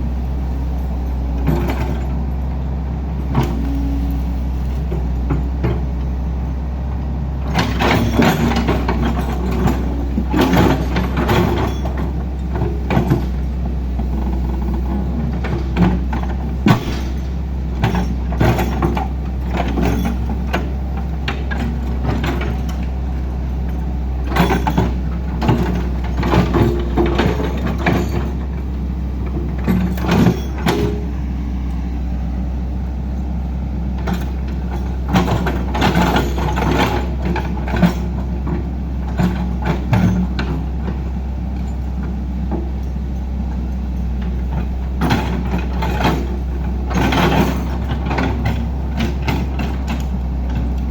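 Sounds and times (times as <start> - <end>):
diesel engine running: 0.0 - 50.9
metallic clanks and knocks: 7.4 - 31.8, 33.9 - 50.9.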